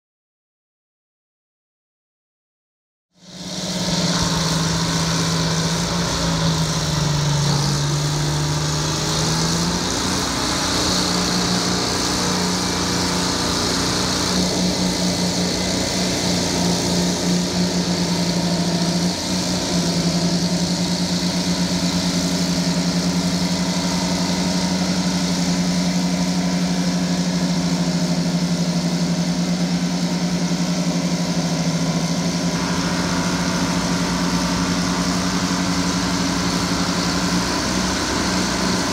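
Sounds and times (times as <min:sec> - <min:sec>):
dozer diesel engines running hard: 0:03.2 - 0:38.9.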